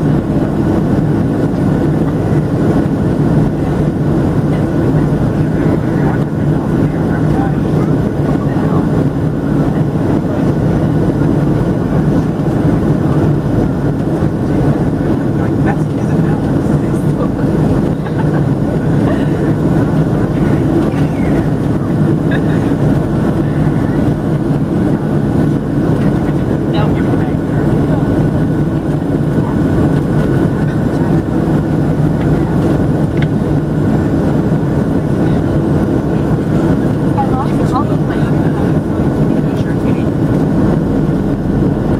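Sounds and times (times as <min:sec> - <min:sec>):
faint steady whine: 0:00.0 - 0:41.9
jet engines rumbling: 0:00.0 - 0:41.9
rushing air: 0:00.0 - 0:41.9.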